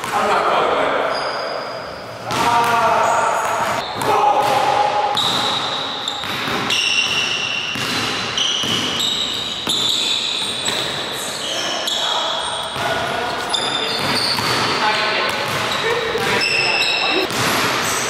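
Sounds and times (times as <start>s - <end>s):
sneaker squeaks: 1.0s - 4.2s, 5.1s - 18.0s.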